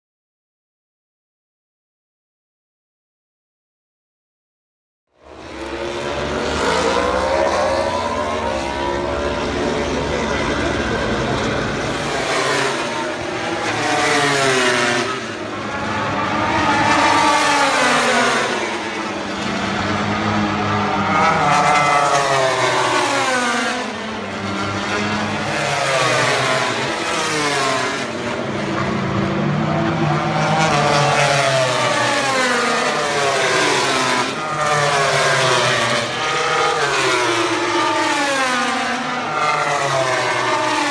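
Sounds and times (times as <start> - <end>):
racing motorcycles passing: 5.3 - 40.9.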